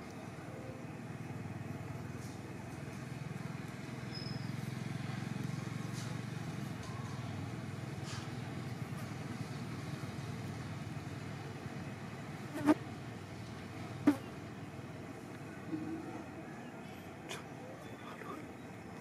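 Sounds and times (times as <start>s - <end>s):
motor vehicle engine rumble: 0.0s - 19.0s.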